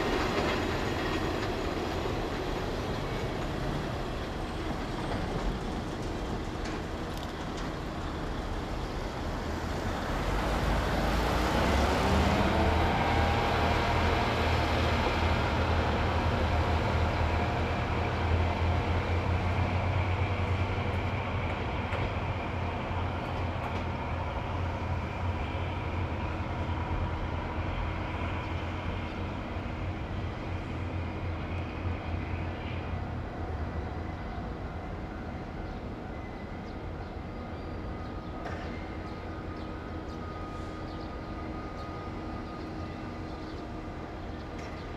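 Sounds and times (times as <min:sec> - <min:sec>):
diesel railcar engines revving: 0:00.0 - 0:44.9.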